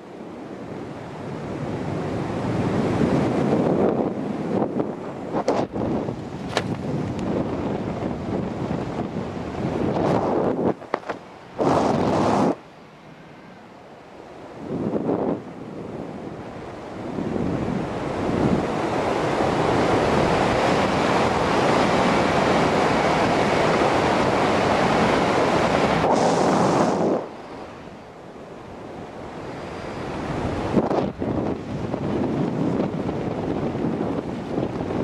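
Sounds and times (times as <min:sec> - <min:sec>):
wind on microphone: 0:00.0 - 0:35.0.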